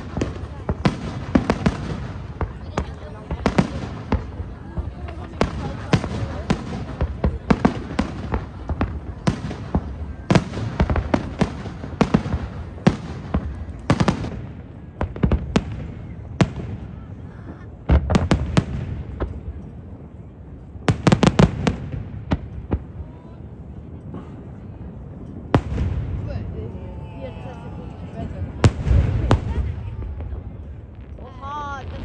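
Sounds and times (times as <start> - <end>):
fireworks bangs: 0.0 - 19.7, 23.8 - 32.0.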